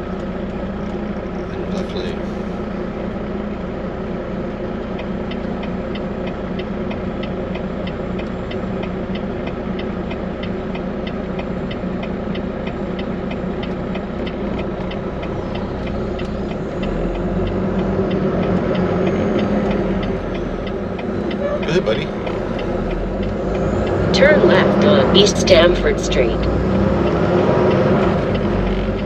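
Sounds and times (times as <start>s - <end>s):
diesel truck engine running: 0.0s - 29.0s
fast ticking: 4.8s - 29.0s.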